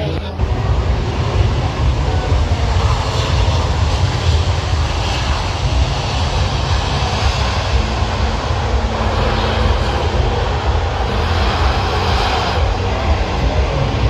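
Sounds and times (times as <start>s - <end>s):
jet airliner engine rumble: 0.0s - 14.0s.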